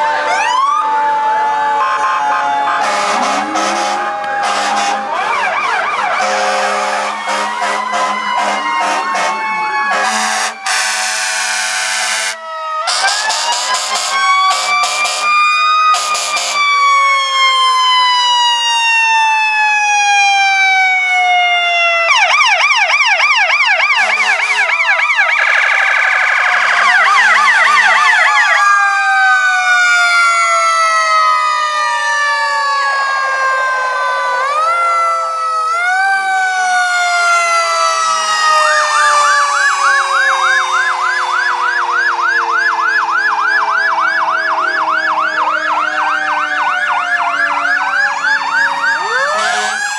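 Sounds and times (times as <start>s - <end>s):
fast yelping sirens: 0.0s - 49.9s
wailing fire truck sirens: 0.0s - 49.9s.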